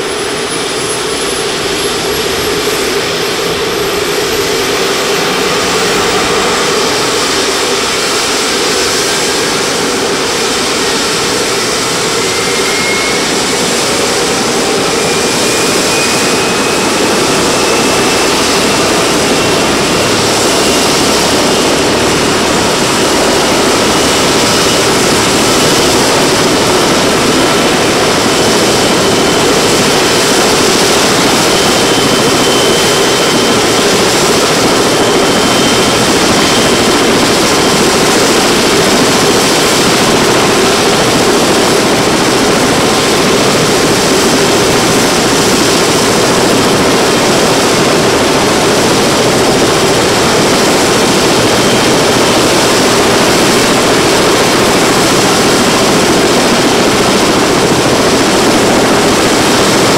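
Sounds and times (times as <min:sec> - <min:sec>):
helicopter running on the ground: 0:00.0 - 0:59.9.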